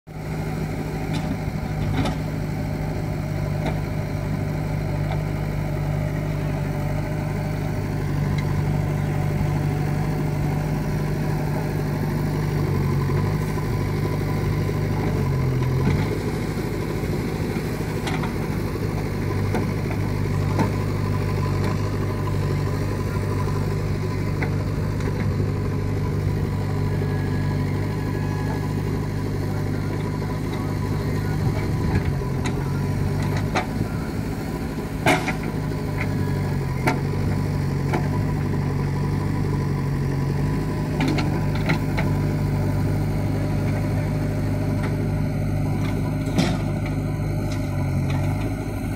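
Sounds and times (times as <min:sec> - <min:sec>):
backhoe diesel engine running: 0:00.1 - 0:48.9
backhoe digging soil: 0:00.4 - 0:48.9.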